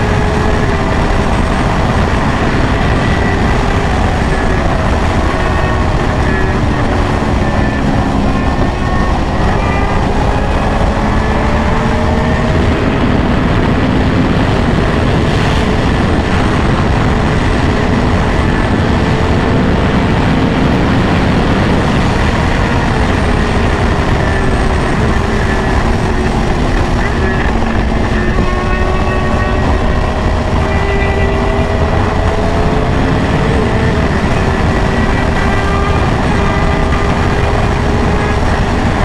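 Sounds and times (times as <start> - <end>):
motorcycle engine cruising: 0.0 - 39.0
wind rush: 0.0 - 39.0.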